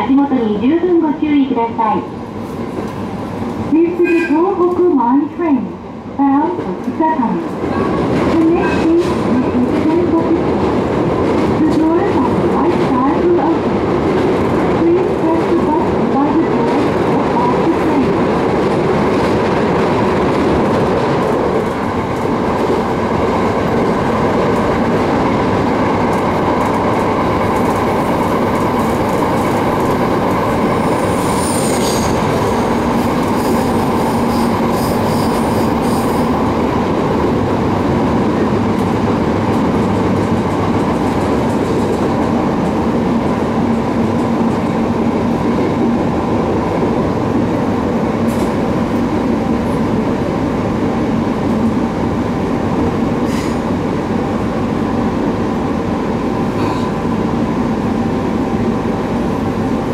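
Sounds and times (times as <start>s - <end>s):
rail joints clickety-clack: 0.0s - 59.9s
train wheels rumbling on rails: 0.0s - 59.9s.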